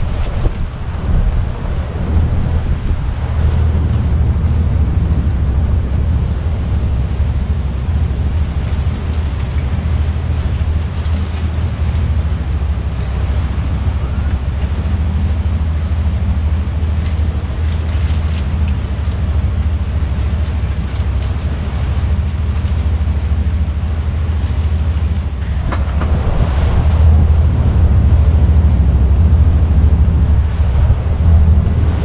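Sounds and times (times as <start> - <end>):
boat engine drone: 0.0 - 32.0
water washing past hull: 0.0 - 32.0
wind buffeting microphone: 0.0 - 32.0.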